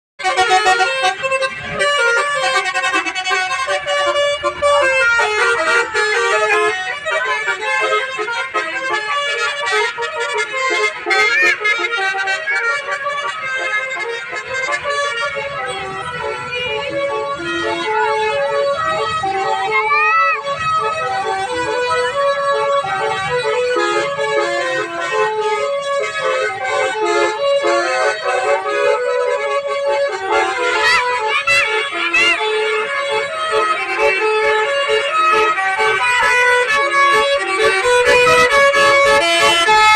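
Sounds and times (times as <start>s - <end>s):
bus horns playing melody: 0.2s - 39.9s.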